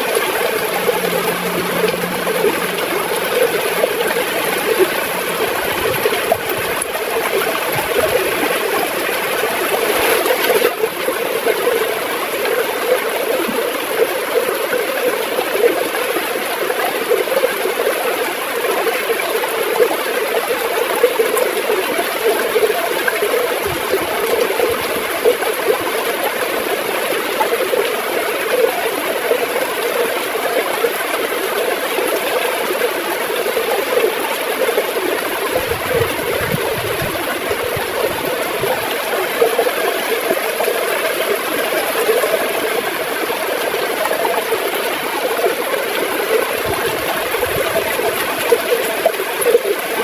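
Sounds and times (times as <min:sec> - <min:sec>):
river water flowing and gurgling: 0:00.0 - 0:50.0.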